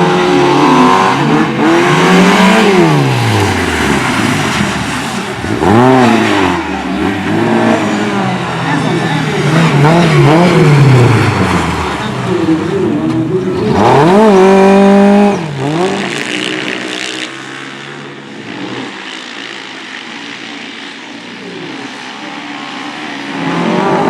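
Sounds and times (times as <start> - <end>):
motorcycle engines revving: 0.0 - 24.0
motorcycle passing at full throttle: 0.0 - 24.0.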